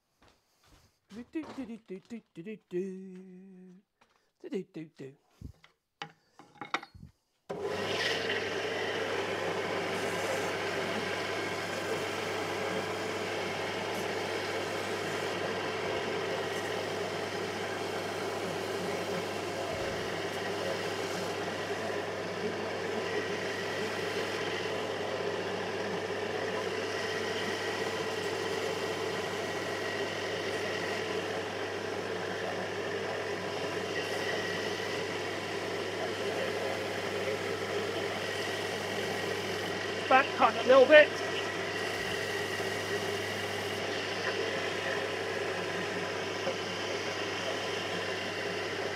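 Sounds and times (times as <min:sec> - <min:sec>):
belt sander motor hum: 0:07.5 - 0:48.9.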